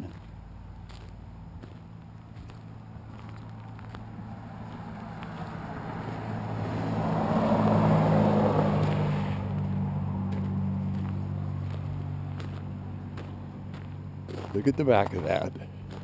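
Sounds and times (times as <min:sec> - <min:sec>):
truck diesel engine running: 0:00.0 - 0:16.0
tyres rolling on gravel: 0:00.0 - 0:16.0.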